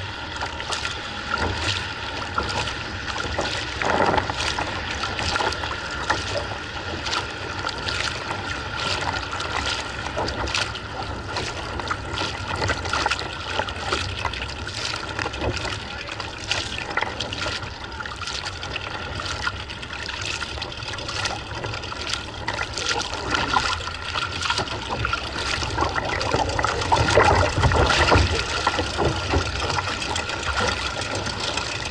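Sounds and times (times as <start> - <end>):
kayak paddle splashing water: 0.0 - 31.9.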